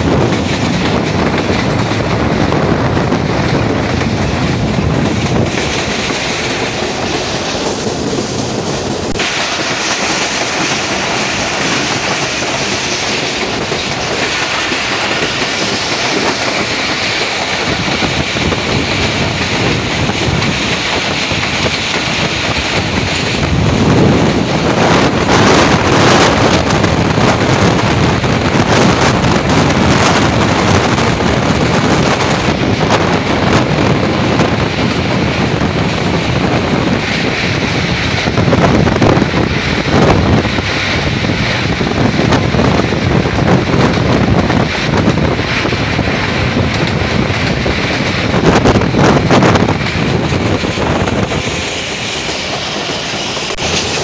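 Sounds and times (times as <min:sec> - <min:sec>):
train wheels rumbling and rattling: 0:00.0 - 0:54.0.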